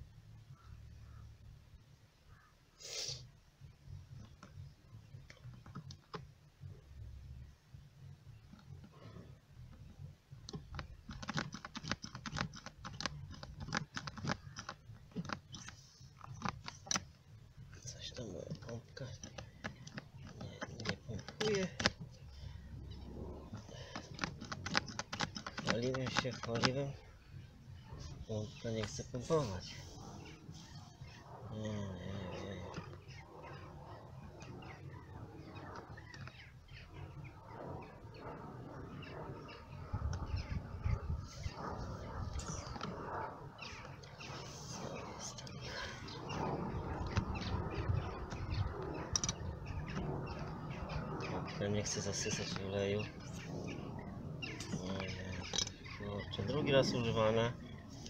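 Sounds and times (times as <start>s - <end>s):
faint low rumble: 0.0s - 11.2s, 12.7s - 58.0s
small birds chirping: 0.3s - 58.0s.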